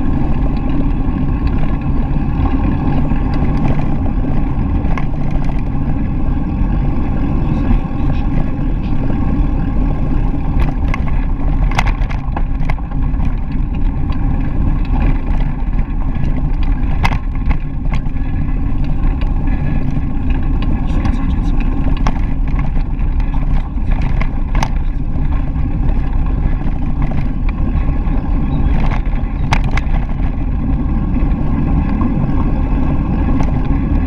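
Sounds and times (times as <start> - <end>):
bicycle tyres rolling over gravel: 0.0 - 34.0
sharp clicks and rattles: 0.0 - 34.0
wind buffeting microphone: 0.0 - 34.0.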